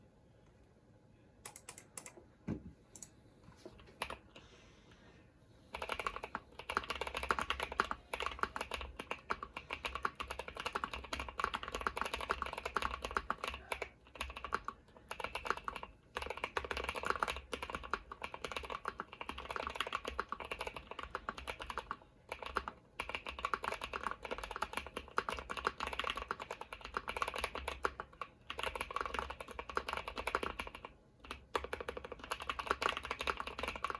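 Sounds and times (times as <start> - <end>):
mechanical keyboard typing: 1.4 - 2.2, 4.0 - 4.2, 5.7 - 33.9.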